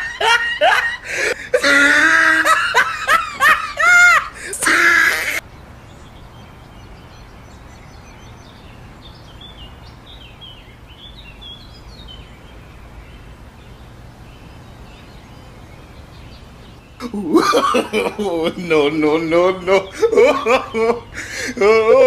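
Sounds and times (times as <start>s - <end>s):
birds chirping: 0.0s - 22.0s
low outdoor hum: 0.0s - 22.0s.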